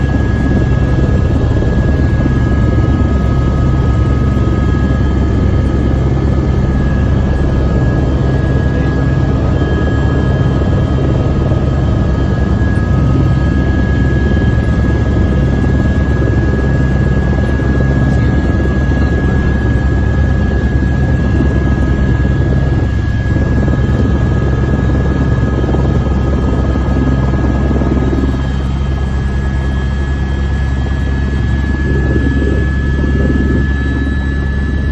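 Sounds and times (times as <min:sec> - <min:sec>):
helicopter rotor and engine rumble: 0:00.0 - 0:34.9.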